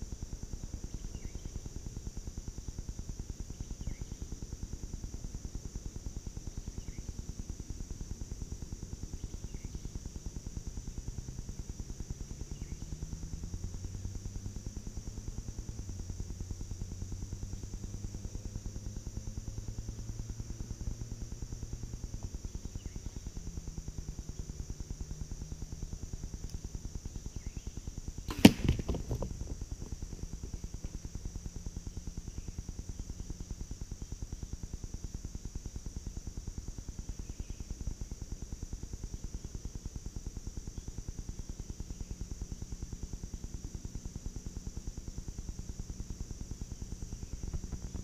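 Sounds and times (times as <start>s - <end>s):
faint low hum rising in pitch: 0.0s - 48.0s
insects droning high-pitched: 0.0s - 48.0s.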